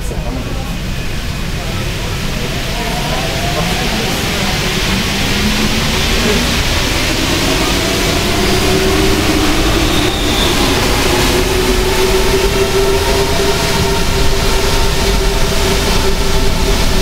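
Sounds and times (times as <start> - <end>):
metro train rumbling in tunnel: 0.0 - 17.0
motor whine: 0.7 - 17.0.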